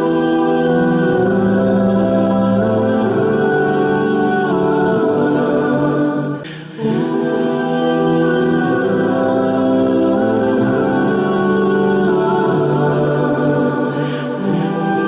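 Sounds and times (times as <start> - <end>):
music of long held chords: 0.0 - 15.0.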